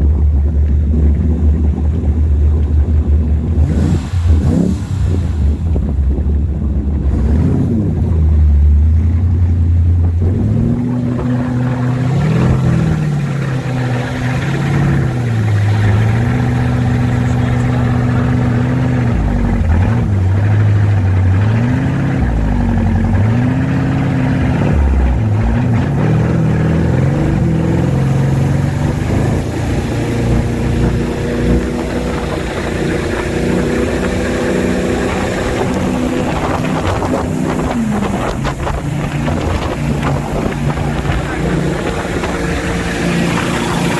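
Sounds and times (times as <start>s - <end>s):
boat engine revving: 0.0s - 43.9s.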